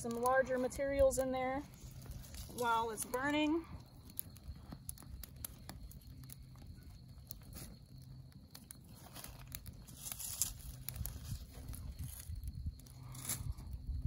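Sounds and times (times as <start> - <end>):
dry sticks rustling: 0.0 - 13.7
campfire crackling and popping: 0.0 - 14.0.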